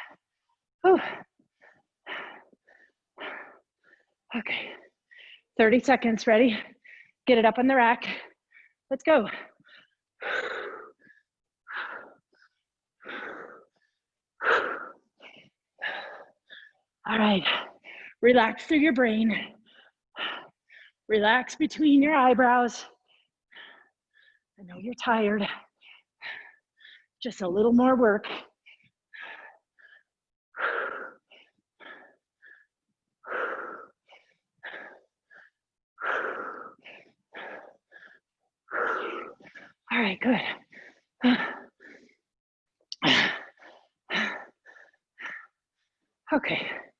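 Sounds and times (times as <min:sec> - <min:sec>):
person breathing hard: 0:00.0 - 0:05.5, 0:08.1 - 0:18.2, 0:19.4 - 0:21.0, 0:23.0 - 0:24.6, 0:25.4 - 0:27.2, 0:28.3 - 0:39.9, 0:40.5 - 0:42.3, 0:43.0 - 0:46.9.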